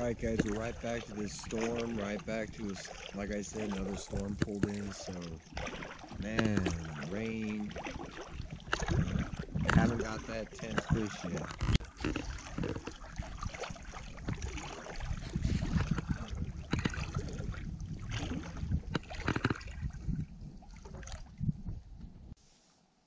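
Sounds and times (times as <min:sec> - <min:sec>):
water lapping against float tube: 0:00.0 - 0:22.4
wind buffeting microphone: 0:00.0 - 0:22.4.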